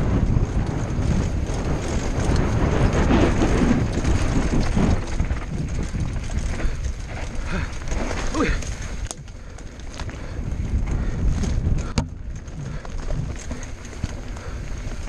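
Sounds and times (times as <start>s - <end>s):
bike frame rattling and knocking: 0.0s - 15.0s
wind buffeting camera: 0.0s - 15.0s.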